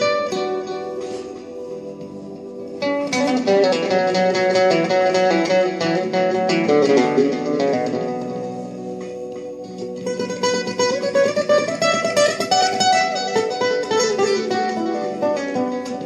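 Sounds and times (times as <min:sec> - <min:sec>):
classical guitar fingerpicking: 0:00.0 - 0:01.3, 0:02.8 - 0:16.0.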